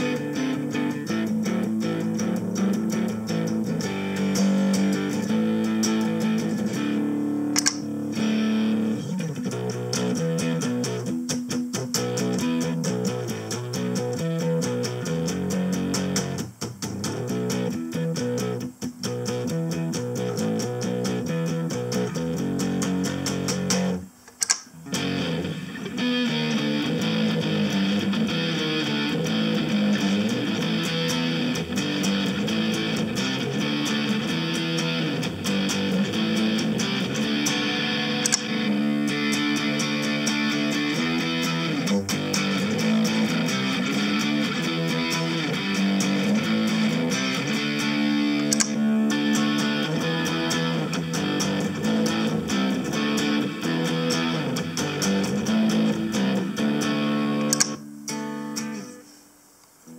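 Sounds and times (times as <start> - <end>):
electric guitar riff: 0.0 - 59.2.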